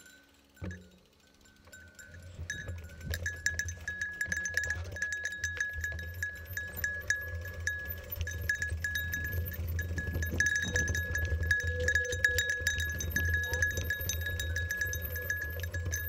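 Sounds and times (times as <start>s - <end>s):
low rumble of bike ride: 0.0s - 16.0s
small metal bell jingling: 0.0s - 16.0s.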